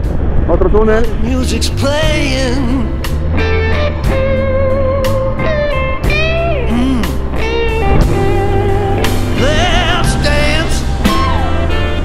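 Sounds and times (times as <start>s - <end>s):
bass and drum beat: 1.0s - 12.0s
electric guitar bending notes: 1.4s - 12.0s.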